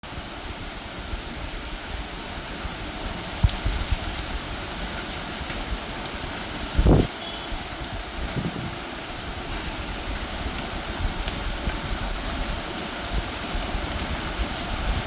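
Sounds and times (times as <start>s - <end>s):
heavy rain: 0.0s - 15.0s
wind buffeting microphone: 0.9s - 15.0s.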